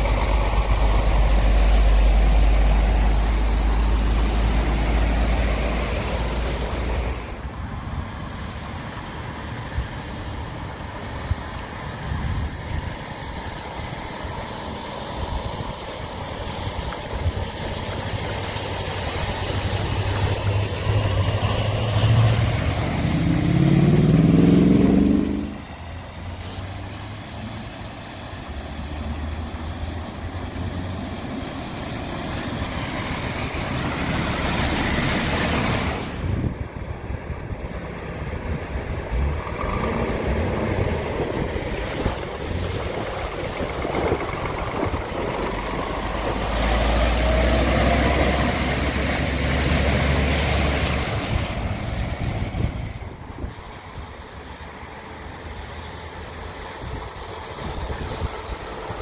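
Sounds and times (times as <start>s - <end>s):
diesel engines running: 0.0s - 59.0s
water rushing and splashing: 0.0s - 59.0s.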